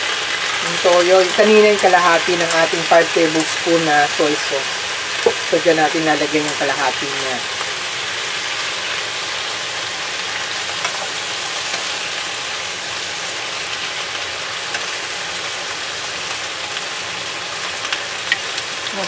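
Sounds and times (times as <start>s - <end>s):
meat and onions sizzling in a pan: 0.0s - 19.0s.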